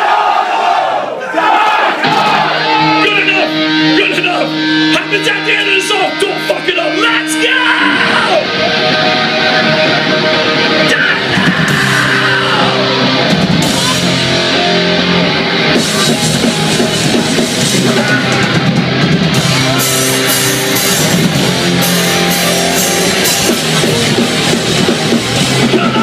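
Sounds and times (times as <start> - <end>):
punk band playing live: 2.0 - 26.0.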